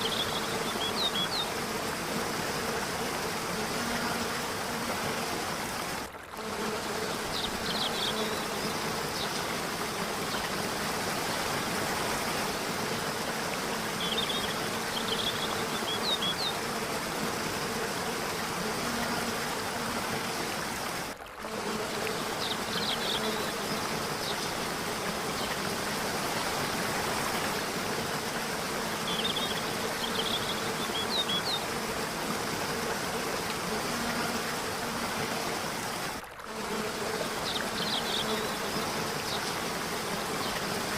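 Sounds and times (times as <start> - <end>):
falling water rushing: 0.0 - 36.6.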